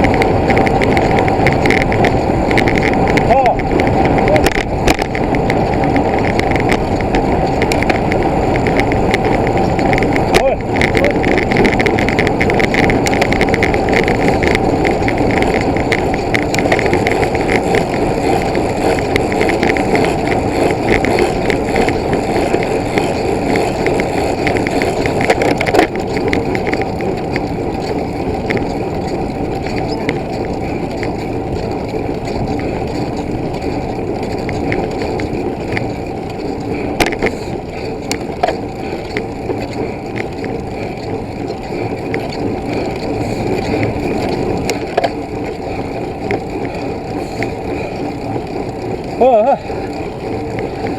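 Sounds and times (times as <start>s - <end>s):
tyres rolling over gravel: 0.0s - 50.9s.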